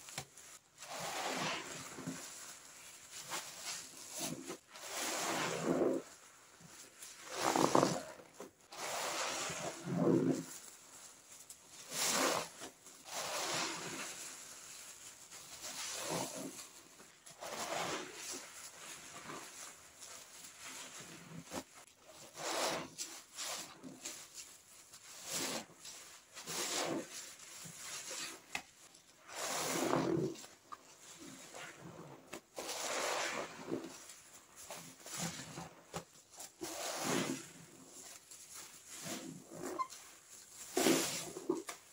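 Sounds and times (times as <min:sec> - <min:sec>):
foam squishing and rubbing: 0:00.0 - 0:41.9.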